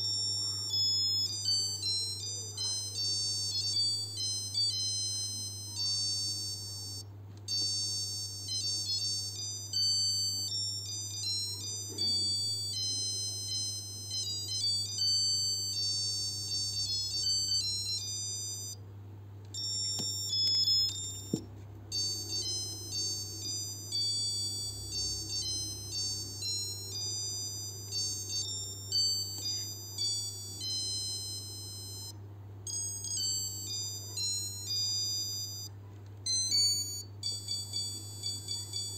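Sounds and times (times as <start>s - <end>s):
watch alarm beeping melodies: 0.0s - 18.8s, 19.6s - 38.9s.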